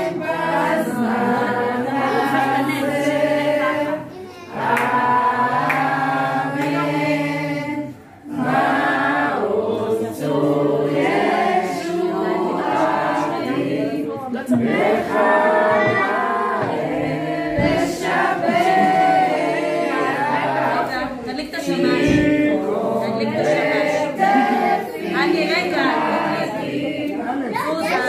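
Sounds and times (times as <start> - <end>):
family group singing: 0.0 - 28.0.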